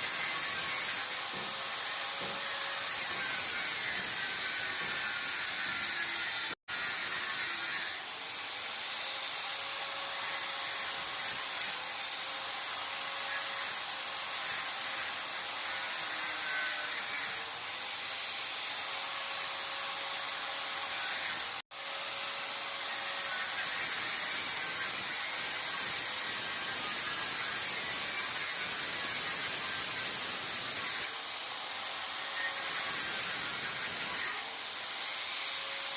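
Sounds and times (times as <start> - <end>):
angle grinder cutting metal rod: 0.0 - 35.9.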